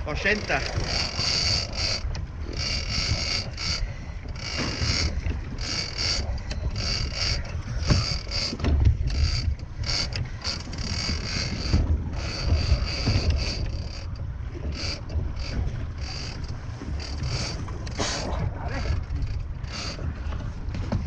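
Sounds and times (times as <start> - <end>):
fishing reel whirring: 0.0 - 20.2
wind and boat rumble: 0.0 - 21.0.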